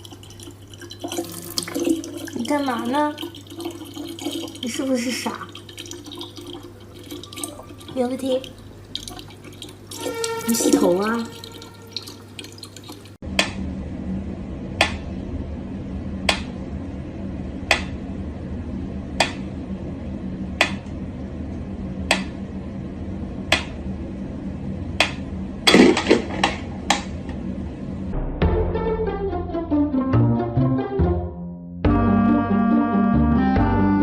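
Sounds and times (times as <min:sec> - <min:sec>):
steady low hum: 0:00.0 - 0:29.8.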